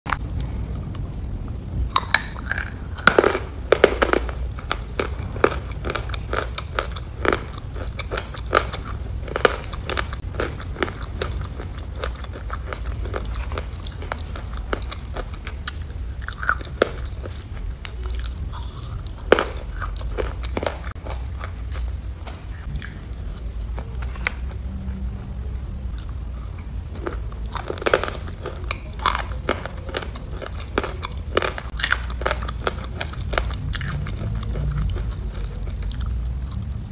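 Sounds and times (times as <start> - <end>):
chewing soft food: 0.1 - 25.0, 25.9 - 36.9
low background hum: 0.1 - 36.9.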